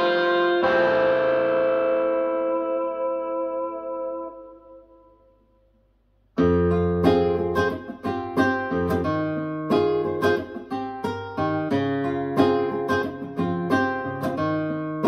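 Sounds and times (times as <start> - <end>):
guitar music through speaker: 0.0 - 5.3, 6.4 - 15.0.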